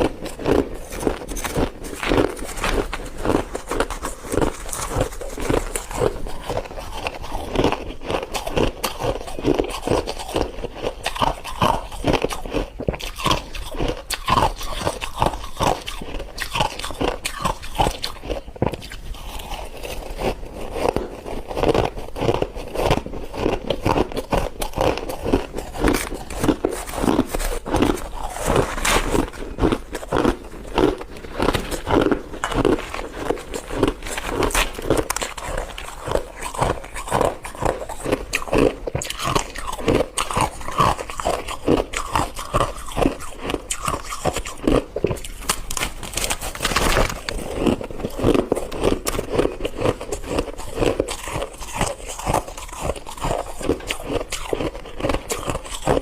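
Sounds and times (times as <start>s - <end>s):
chewing and crunching frost: 0.0s - 56.0s.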